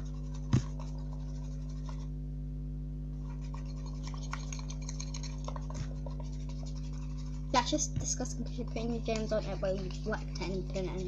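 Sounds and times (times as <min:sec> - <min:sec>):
slime being stirred in a bowl: 0:00.0 - 0:02.1, 0:03.2 - 0:11.0
electrical hum: 0:00.0 - 0:11.0.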